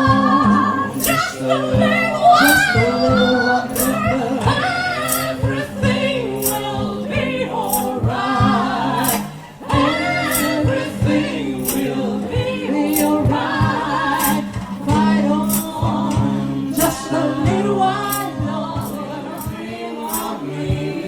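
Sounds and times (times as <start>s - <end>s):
steady bass notes: 0.0s - 21.0s
vocal trio singing harmony: 0.0s - 21.0s
sharp percussion hits: 0.9s - 20.9s.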